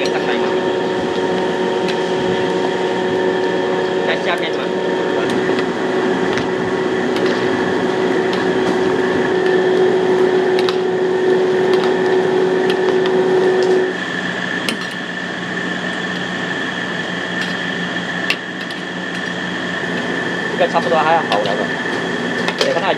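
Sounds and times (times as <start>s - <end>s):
extractor fan: 0.0s - 22.9s
gas burner roaring: 0.0s - 22.9s
steady hum: 0.0s - 22.9s.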